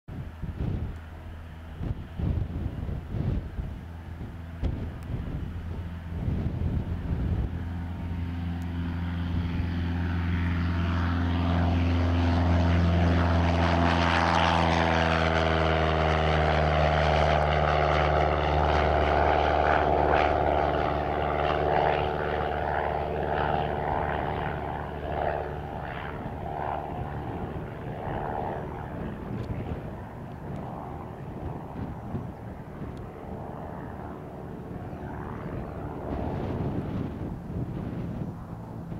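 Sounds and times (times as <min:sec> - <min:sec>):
propeller plane taking off: 0:00.1 - 0:38.9.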